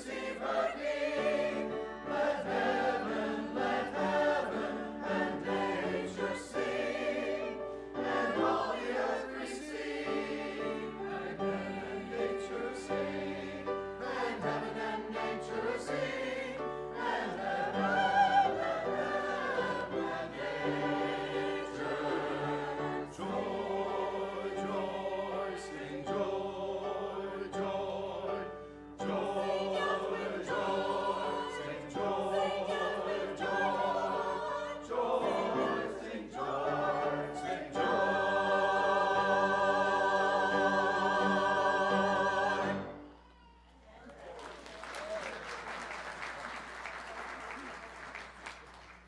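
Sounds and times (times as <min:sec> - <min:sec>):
choir singing in harmony: 0:00.0 - 0:43.2.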